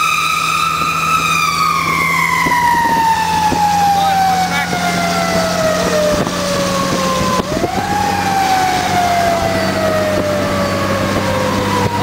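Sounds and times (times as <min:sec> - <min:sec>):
fire engine siren: 0:00.0 - 0:12.0
truck engine drone: 0:00.0 - 0:12.0.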